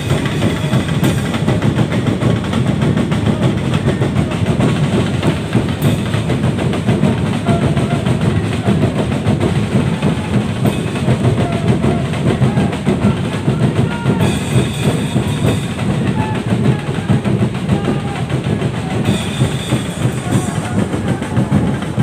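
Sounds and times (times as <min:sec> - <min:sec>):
drums beating steady rhythm: 0:00.0 - 0:22.0
large crowd noise: 0:00.0 - 0:22.0.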